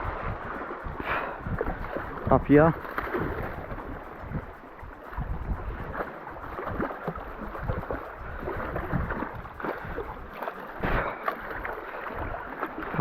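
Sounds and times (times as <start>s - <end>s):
shallow water splashing: 0.0s - 13.0s
wind buffeting microphone: 0.0s - 13.0s.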